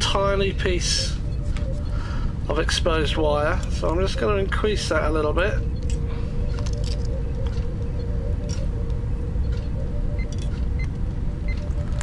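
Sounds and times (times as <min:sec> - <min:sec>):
faint hum: 0:00.0 - 0:12.0
low rumble: 0:00.0 - 0:12.0.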